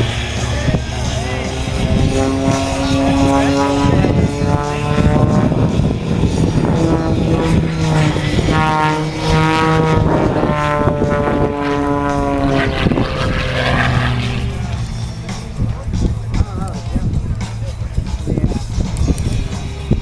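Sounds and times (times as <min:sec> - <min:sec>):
propeller airplane engine: 0:00.0 - 0:20.0.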